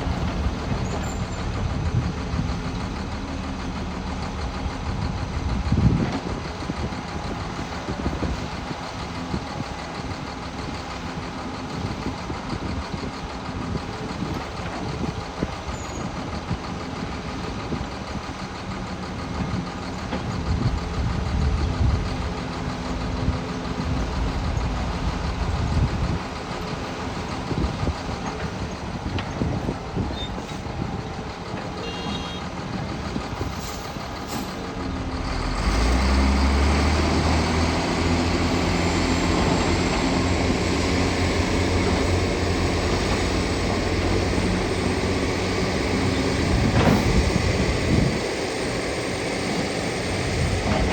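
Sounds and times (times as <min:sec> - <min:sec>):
excavator diesel engine rumbling: 0:00.0 - 0:50.9.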